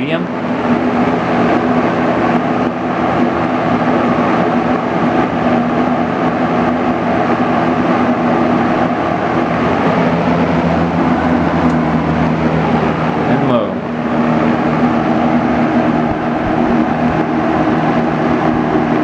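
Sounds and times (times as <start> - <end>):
box fan air rushing: 0.0 - 19.0
fan motor hum: 0.0 - 19.0.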